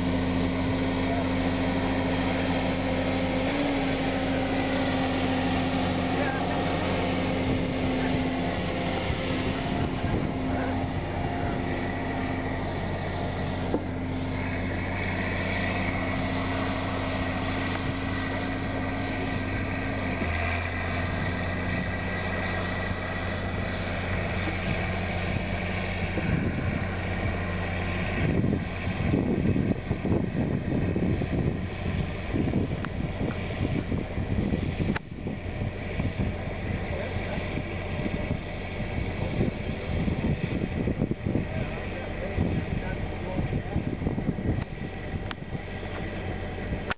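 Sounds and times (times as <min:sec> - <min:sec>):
tractor engine droning: 0:00.0 - 0:46.9
wind buffeting microphone: 0:03.0 - 0:46.9.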